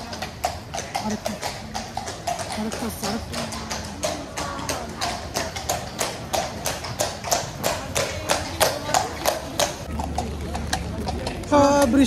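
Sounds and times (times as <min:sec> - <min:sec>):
horse hooves clip-clopping on street: 0:00.0 - 0:12.0.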